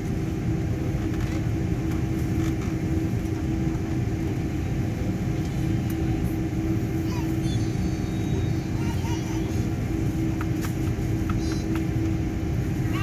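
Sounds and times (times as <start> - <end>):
airliner cabin rumble and hum: 0.0 - 13.0.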